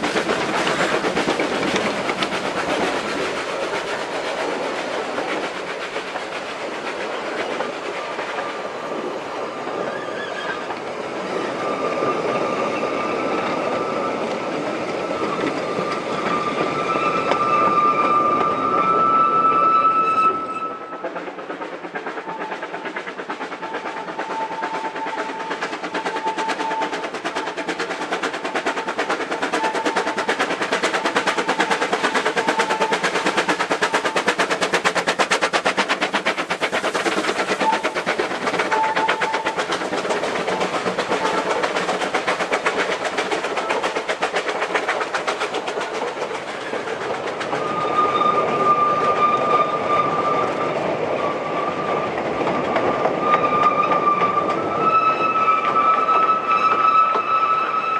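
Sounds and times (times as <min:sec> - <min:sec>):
steam locomotive chuffing: 0:00.0 - 0:57.9
train coaches rattling over rails: 0:00.0 - 0:57.9.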